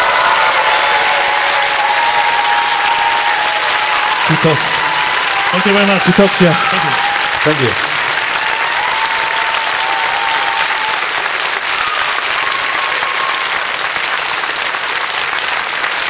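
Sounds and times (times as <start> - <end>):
large audience applauding: 0.0 - 16.0.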